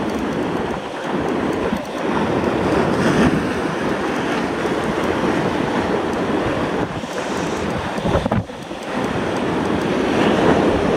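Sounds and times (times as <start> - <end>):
wind buffeting microphone: 0.0 - 10.9
surf breaking against rocks: 1.1 - 10.9.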